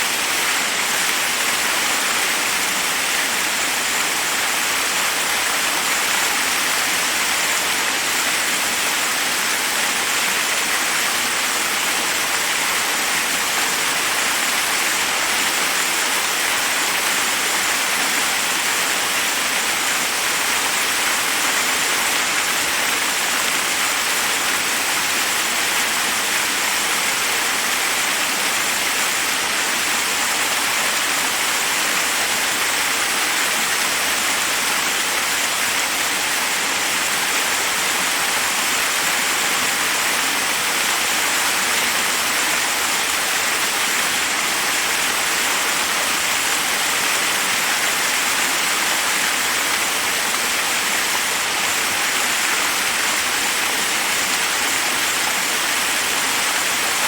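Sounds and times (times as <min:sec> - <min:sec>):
water cascading over rocks: 0:00.0 - 0:57.0.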